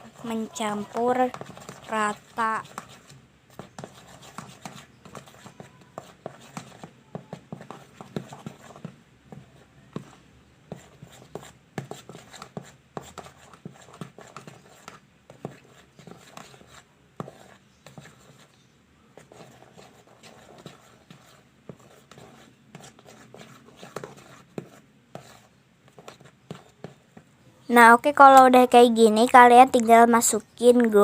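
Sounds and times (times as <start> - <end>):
stirrer squelching in foamy glue: 0.0 - 27.3.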